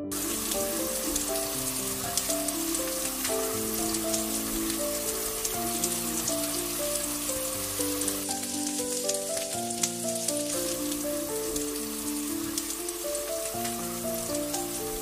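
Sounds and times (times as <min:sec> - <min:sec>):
background music with held notes: 0:00.0 - 0:15.0
potatoes sizzling in oil: 0:00.1 - 0:15.0.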